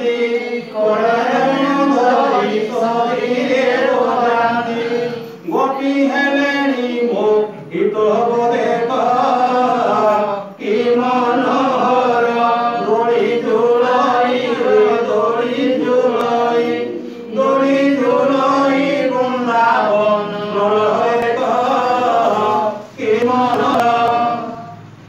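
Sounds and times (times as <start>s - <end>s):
devotional chanting into microphone: 0.0s - 25.0s.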